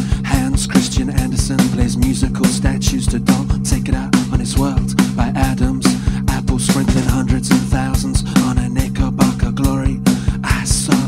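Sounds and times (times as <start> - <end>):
low repeating bass line: 0.0 - 11.0
repeating drum beat: 0.0 - 11.0.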